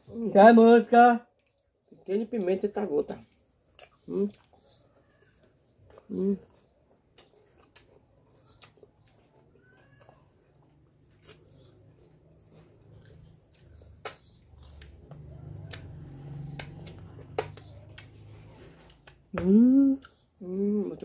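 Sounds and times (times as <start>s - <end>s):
faint chewing: 1.3s - 21.0s.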